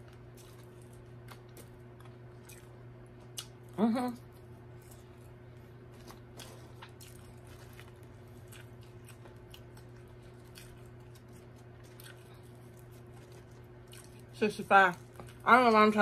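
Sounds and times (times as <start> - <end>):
chewing french fries: 0.0 - 16.0
steady low hum: 0.0 - 16.0.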